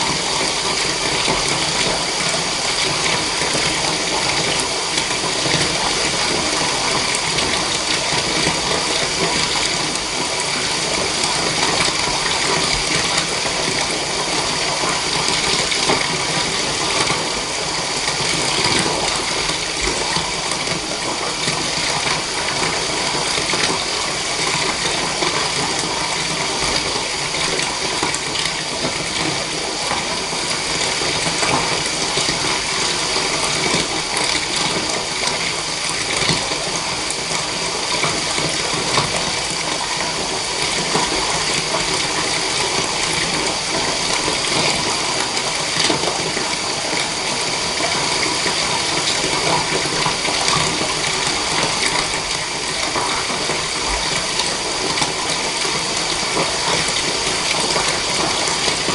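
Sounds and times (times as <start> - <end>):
tap water running into bathtub: 0.0 - 58.9.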